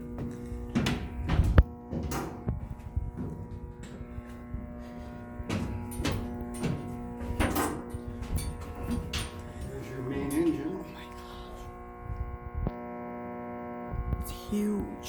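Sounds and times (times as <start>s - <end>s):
engine room machinery hum: 0.0s - 15.0s.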